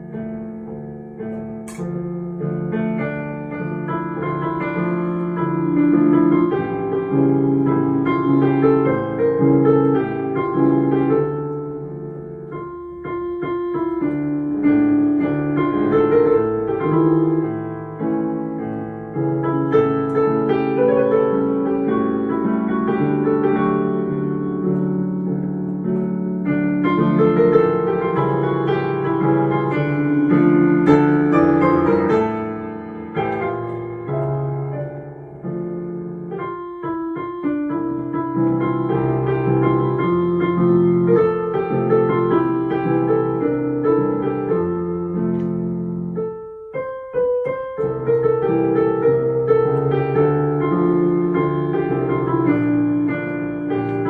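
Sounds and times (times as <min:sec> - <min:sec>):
piano melody over chords: 0:00.0 - 0:54.0.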